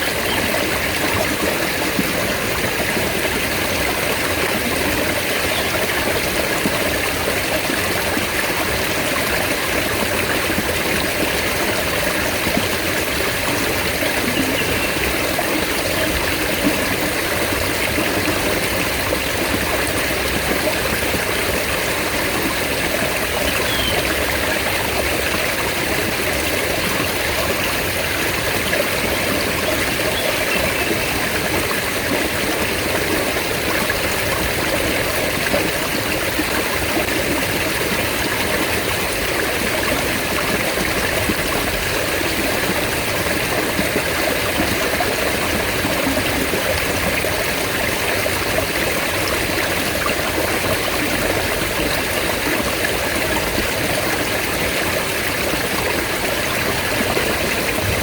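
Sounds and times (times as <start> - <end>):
stream water splashing over rocks: 0.0 - 58.0.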